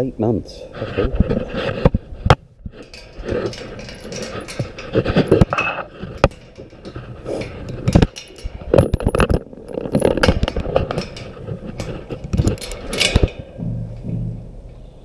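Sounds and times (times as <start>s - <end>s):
gate chain rattling: 2.7s - 15.0s
metal gates clanking: 2.7s - 15.0s.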